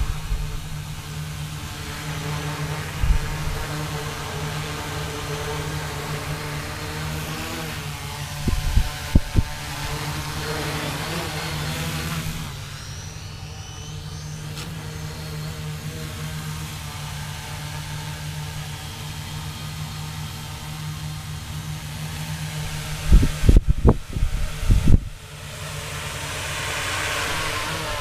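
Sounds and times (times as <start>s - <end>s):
drone propellers buzzing: 0.0s - 28.0s
faint high whine: 0.0s - 28.0s.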